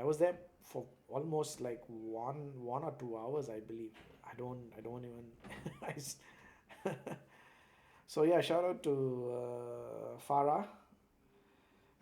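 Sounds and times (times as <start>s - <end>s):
man speaking: 0.0s - 7.2s, 8.1s - 10.9s.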